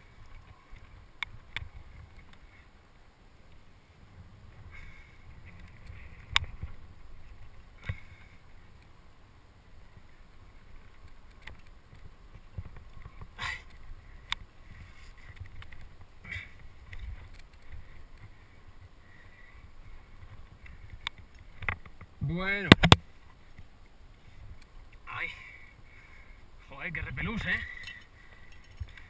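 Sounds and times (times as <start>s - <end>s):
low wind rumble: 0.0s - 29.0s.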